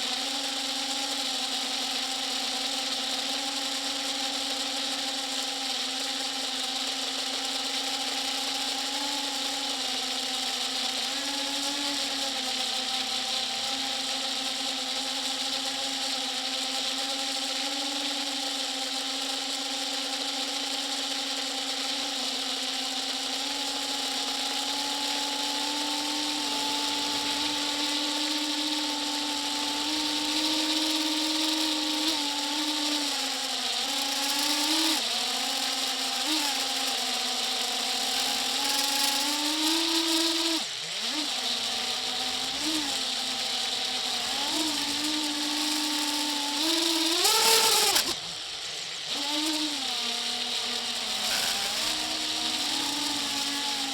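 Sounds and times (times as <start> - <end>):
small motor humming: 0.0 - 53.9.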